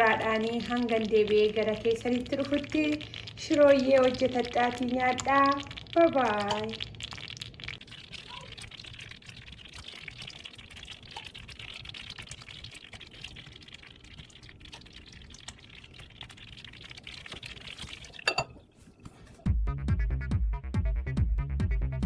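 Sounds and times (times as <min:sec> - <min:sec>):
watery hiss with small crackles: 0:00.0 - 0:19.4.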